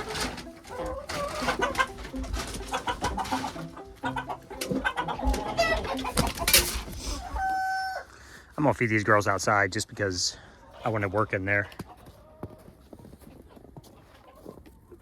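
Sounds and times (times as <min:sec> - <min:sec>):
chickens clucking and squawking: 0:00.0 - 0:08.5, 0:10.4 - 0:15.0.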